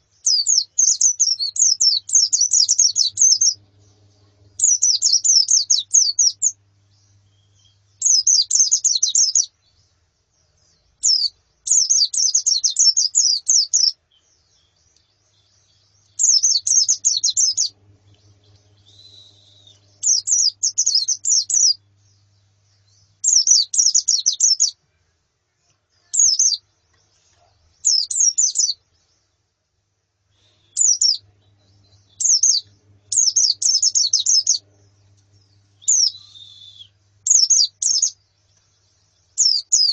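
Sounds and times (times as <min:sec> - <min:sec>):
birds chirping rapidly: 0:00.0 - 0:24.8, 0:26.0 - 0:29.6, 0:30.4 - 0:39.9
faint low hum: 0:00.0 - 0:39.9.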